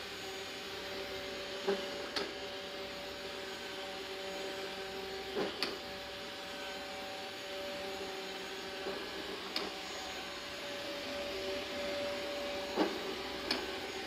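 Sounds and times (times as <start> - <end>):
robot vacuum humming: 0.0 - 14.0.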